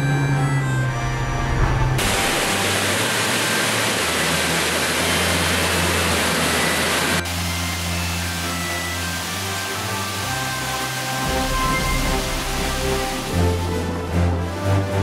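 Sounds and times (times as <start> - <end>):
background music: 0.0 - 15.0
water rushing through canal lock: 2.0 - 15.0.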